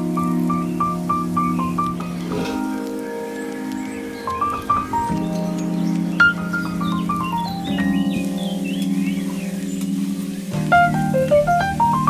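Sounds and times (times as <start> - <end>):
descending single-note melody: 0.0 - 12.0.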